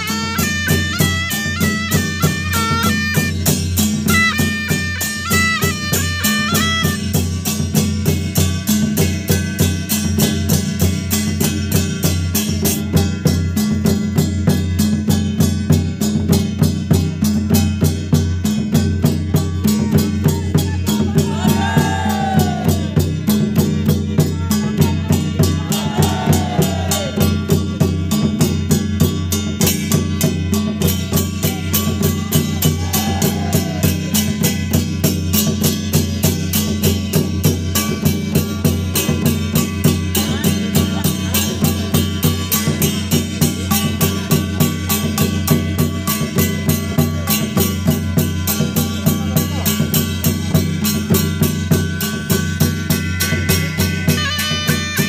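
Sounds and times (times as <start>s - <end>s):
drums playing fast beat: 0.0s - 55.0s.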